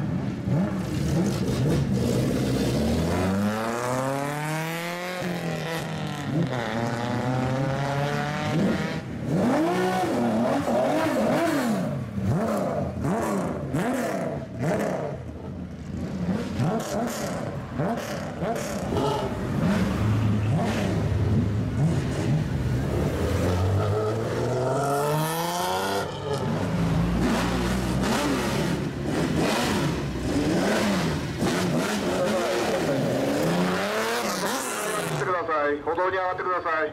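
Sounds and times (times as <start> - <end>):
loud car exhausts revving: 0.4 - 35.4.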